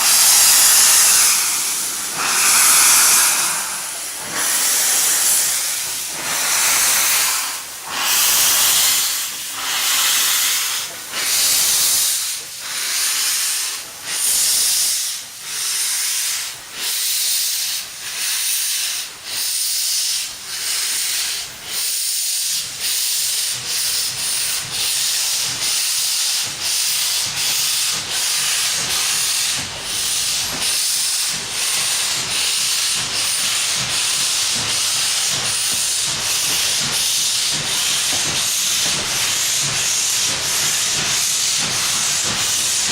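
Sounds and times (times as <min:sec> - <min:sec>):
steam locomotive exhaust chuffing: 0:00.0 - 0:42.9.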